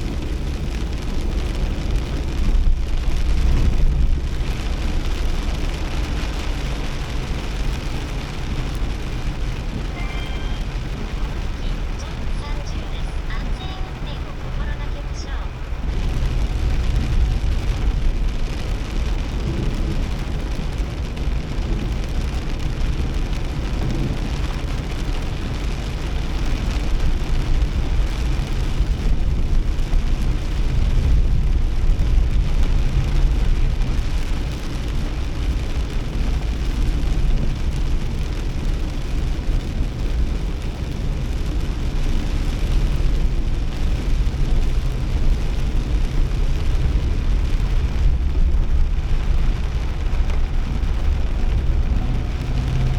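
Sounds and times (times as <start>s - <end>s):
car engine and road rumble: 0.0s - 52.9s
rain falling on car: 0.0s - 52.9s.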